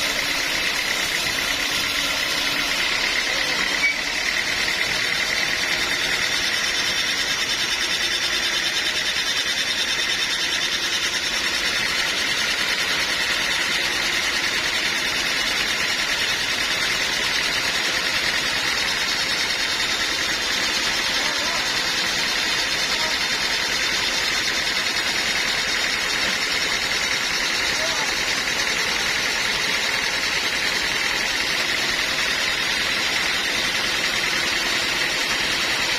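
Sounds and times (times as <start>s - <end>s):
high steady whine: 0.0s - 35.9s
sawmill machine noise: 0.0s - 35.9s.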